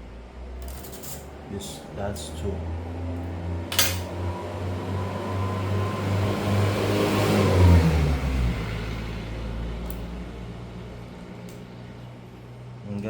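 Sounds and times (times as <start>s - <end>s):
vehicle engine passing by: 0.4s - 12.3s.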